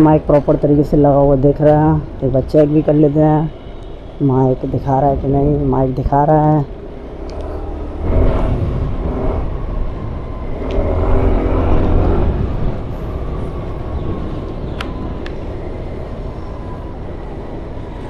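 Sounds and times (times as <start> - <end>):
wind and road rumble: 0.0 - 18.0.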